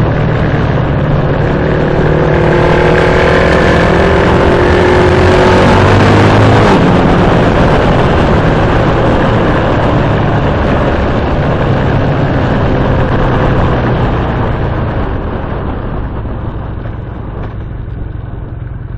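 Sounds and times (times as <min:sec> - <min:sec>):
loud vehicle engines running: 0:00.0 - 0:18.9.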